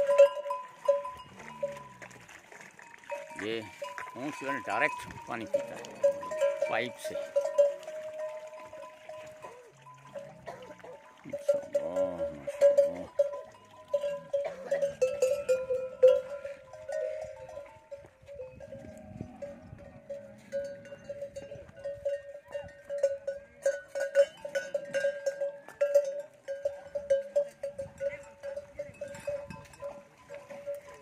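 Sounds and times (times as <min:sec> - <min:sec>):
camel bells clanking: 0:00.0 - 0:31.0.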